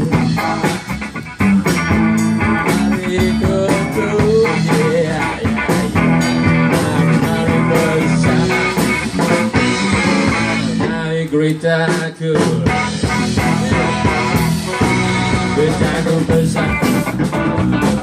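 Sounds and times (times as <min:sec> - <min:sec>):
electric guitar lines: 0:00.0 - 0:11.6, 0:12.6 - 0:18.0
bass guitar: 0:00.0 - 0:18.0
steady drum beat: 0:00.0 - 0:18.0.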